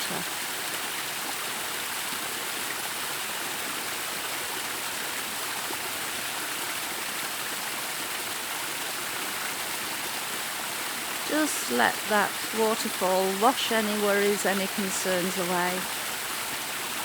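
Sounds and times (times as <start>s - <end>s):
water falling into a pool: 0.0s - 17.0s.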